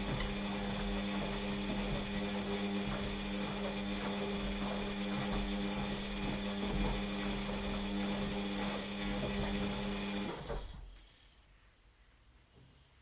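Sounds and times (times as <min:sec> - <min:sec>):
washing machine motor hum: 0:00.0 - 0:10.9.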